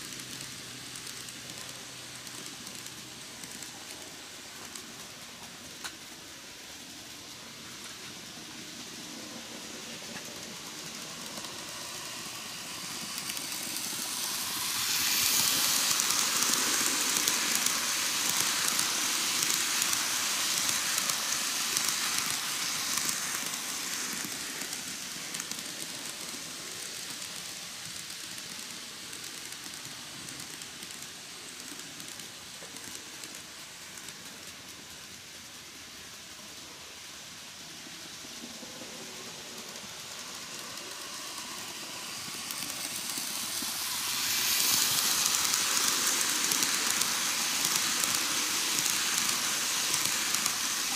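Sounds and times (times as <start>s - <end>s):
model train running past: 0.0s - 50.9s.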